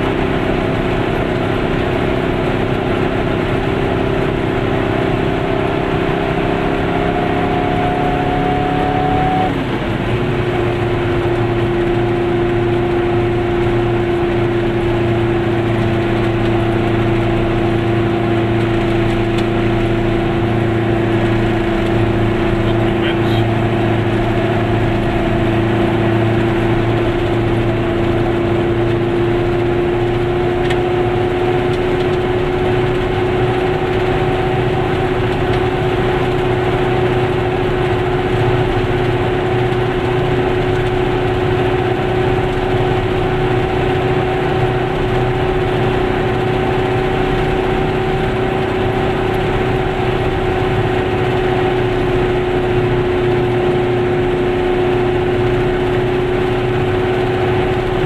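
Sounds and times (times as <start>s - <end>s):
road and tyre noise: 0.0s - 58.0s
two-stroke car engine droning: 0.0s - 58.0s.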